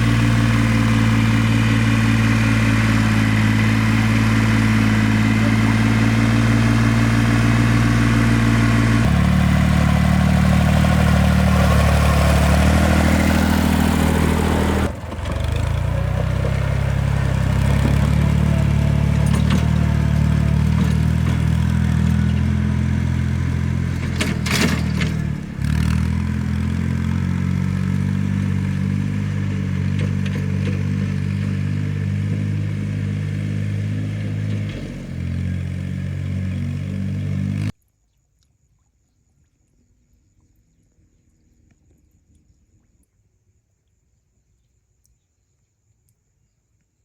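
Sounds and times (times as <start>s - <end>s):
engine running: 0.0s - 37.7s.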